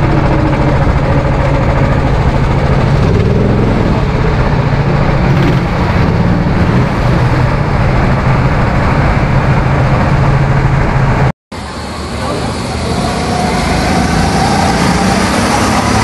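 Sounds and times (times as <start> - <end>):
go-kart engine idling: 0.0 - 13.5.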